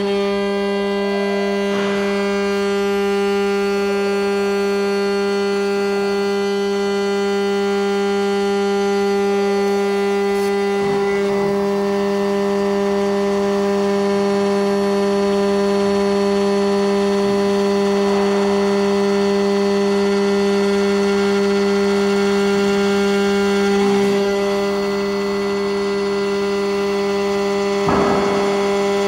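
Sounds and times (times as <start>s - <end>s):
end mill cutting aluminium: 0.0s - 29.0s
router spindle whine: 0.0s - 29.0s.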